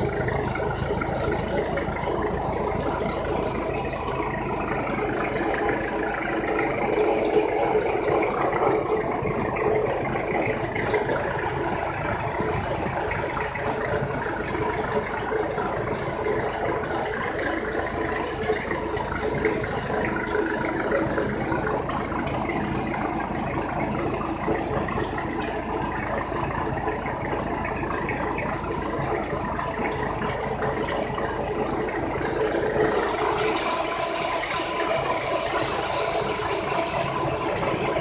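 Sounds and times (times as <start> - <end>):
tractor engine under load: 0.0 - 38.0.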